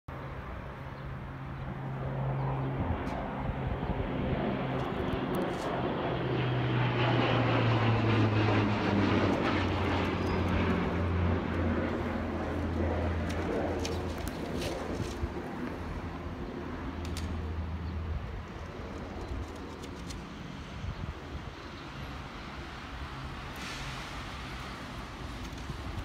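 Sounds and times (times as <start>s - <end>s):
small plane engine drone: 0.1s - 26.0s.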